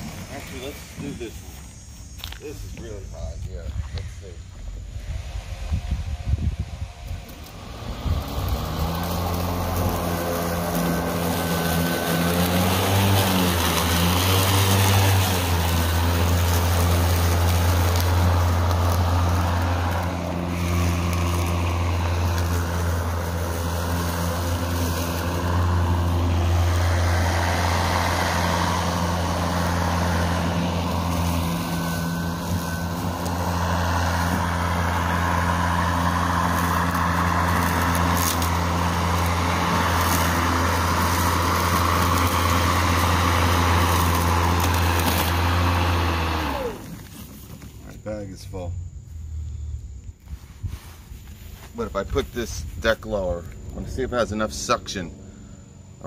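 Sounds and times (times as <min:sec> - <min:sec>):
electric lawn mower running: 0:00.0 - 0:47.8.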